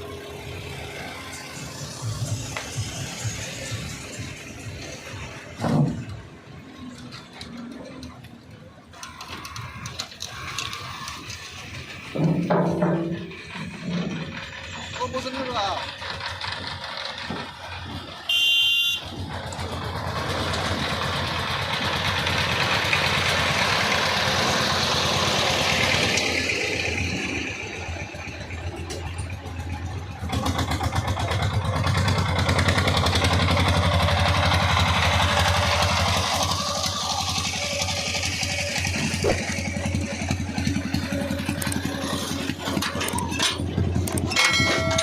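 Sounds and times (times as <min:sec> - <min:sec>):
vehicle engine throbbing: 0:00.0 - 0:45.0.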